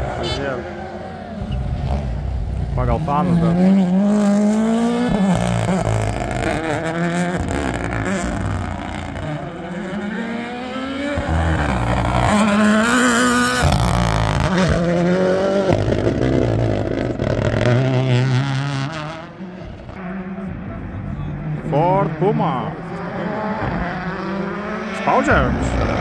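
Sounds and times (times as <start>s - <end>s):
rally car engine accelerating: 0.0s - 26.0s.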